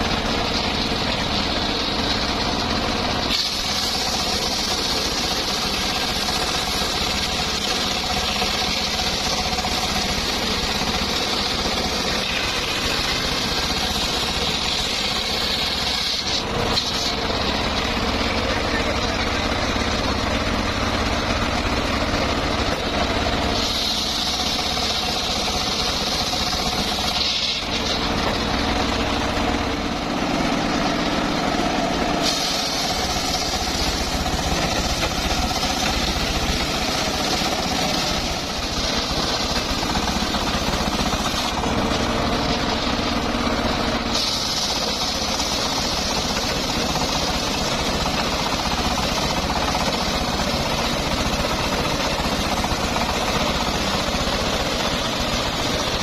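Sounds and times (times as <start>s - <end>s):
saw blade cutting wood: 0.0s - 19.6s, 22.6s - 29.4s, 30.8s - 43.2s, 43.9s - 56.0s
engine-driven sawmill running: 0.0s - 56.0s.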